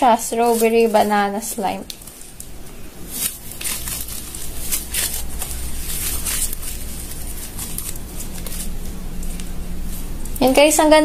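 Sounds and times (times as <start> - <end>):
slime squishing and crackling: 0.0 - 9.6.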